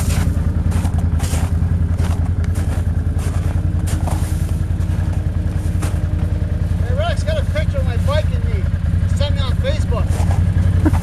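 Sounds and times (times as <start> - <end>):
atv engines idling: 0.0 - 11.0.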